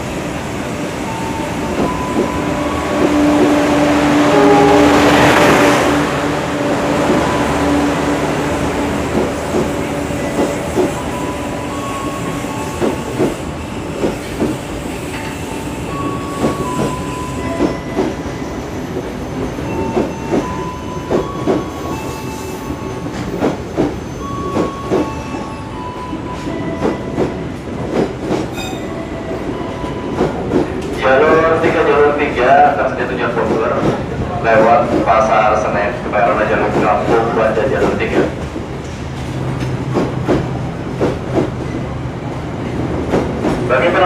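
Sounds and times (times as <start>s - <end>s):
train rumbling past: 0.0s - 44.0s.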